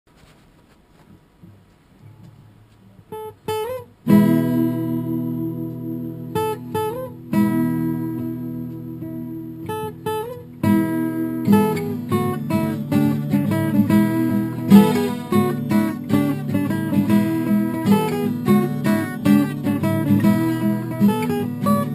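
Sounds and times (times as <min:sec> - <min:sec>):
acoustic guitar riff: 0:01.4 - 0:21.9.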